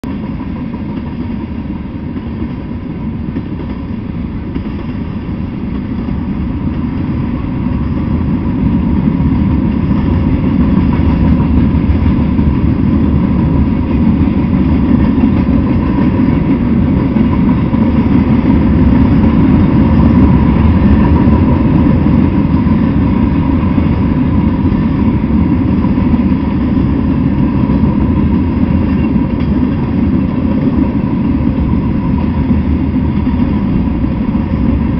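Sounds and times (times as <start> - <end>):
freight train rumbling on rails: 0.0 - 34.9.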